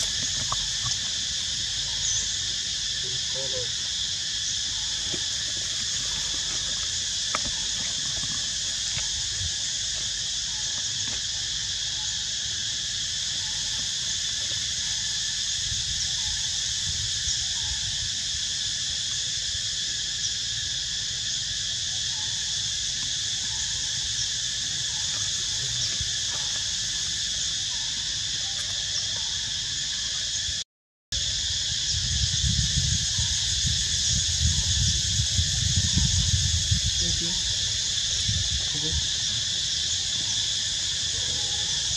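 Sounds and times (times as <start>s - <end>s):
insect chorus: 0.0s - 30.6s, 31.2s - 41.9s.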